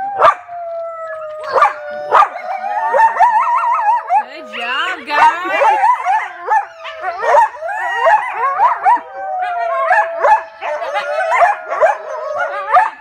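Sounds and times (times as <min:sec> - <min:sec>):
children howling: 0:00.0 - 0:13.0
coyotes howling and yipping: 0:00.0 - 0:13.0.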